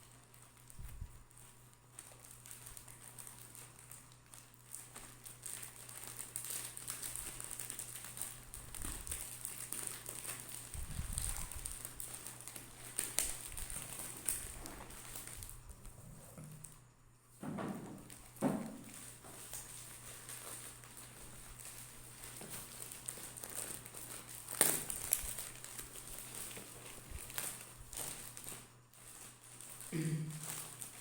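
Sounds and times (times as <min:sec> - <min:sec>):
packaging rustling: 0:00.0 - 0:31.0.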